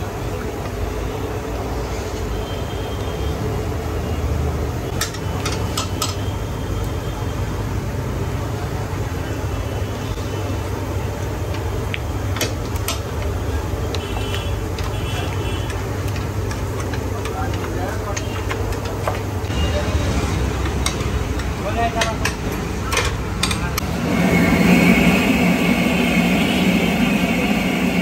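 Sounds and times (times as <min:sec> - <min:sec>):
busy kitchen: 0:00.0 - 0:28.0
street traffic rumble: 0:00.0 - 0:28.0.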